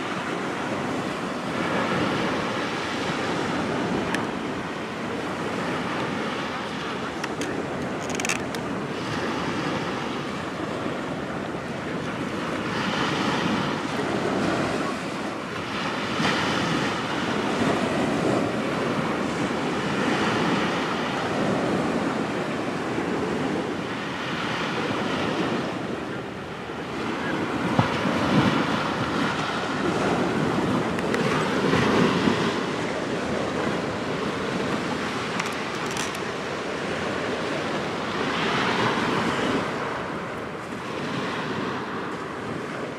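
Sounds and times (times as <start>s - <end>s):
waves washing onto shore: 0.0s - 42.9s
wind blowing on microphone: 0.0s - 42.9s.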